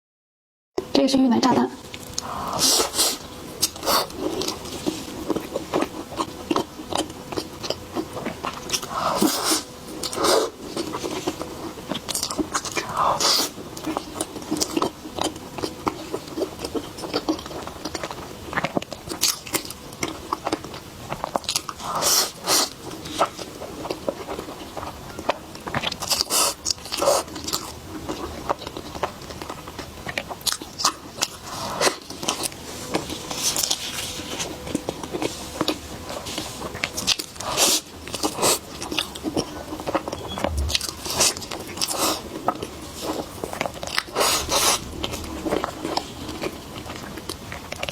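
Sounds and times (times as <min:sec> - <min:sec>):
person chewing crunchy dessert: 0:01.8 - 0:47.9.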